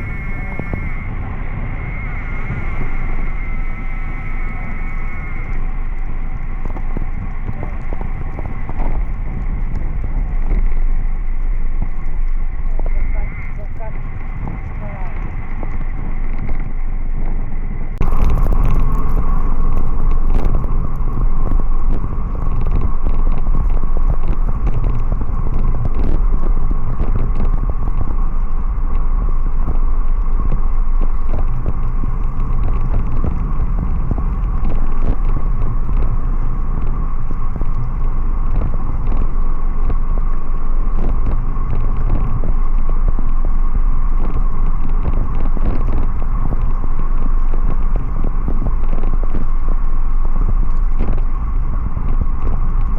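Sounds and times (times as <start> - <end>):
rushing air: 0.0 - 52.9.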